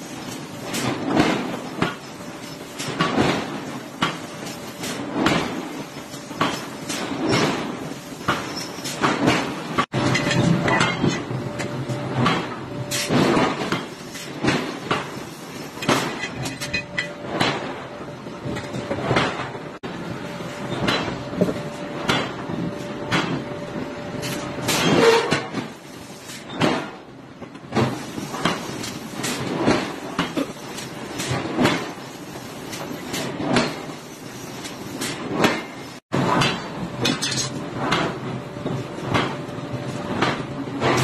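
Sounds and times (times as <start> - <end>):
steady workshop din: 0.0 - 41.0.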